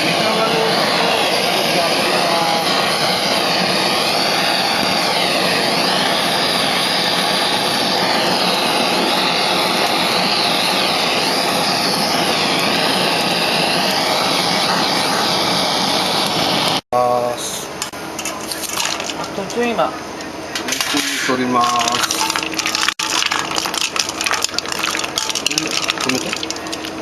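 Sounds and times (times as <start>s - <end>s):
gas torch hissing: 0.0s - 17.7s, 20.6s - 27.0s.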